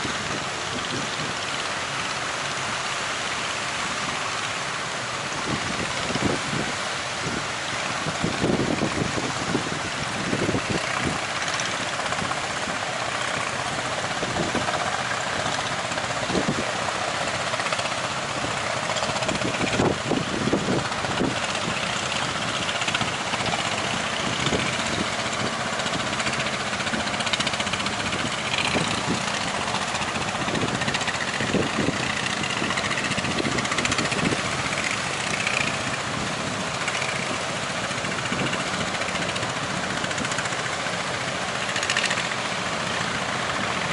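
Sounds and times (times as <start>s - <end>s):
boat engine running: 0.0s - 43.9s
surf: 0.0s - 43.9s
wind: 0.0s - 43.9s.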